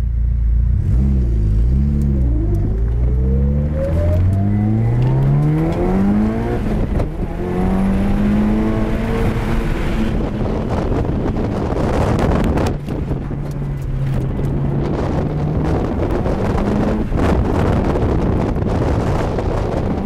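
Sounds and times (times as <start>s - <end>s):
car engine accelerating: 0.0s - 20.0s
wind noise: 0.8s - 20.0s.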